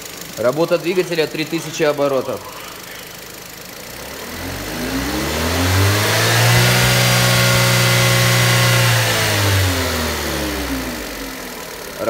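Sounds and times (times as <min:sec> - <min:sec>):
petrol engine revving: 0:00.0 - 0:12.0.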